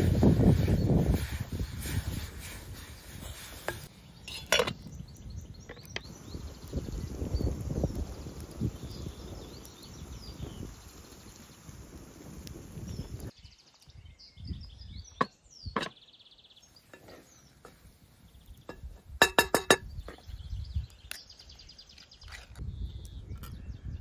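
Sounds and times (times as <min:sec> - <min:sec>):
birds chirping and trilling: 0:02.8 - 0:24.0.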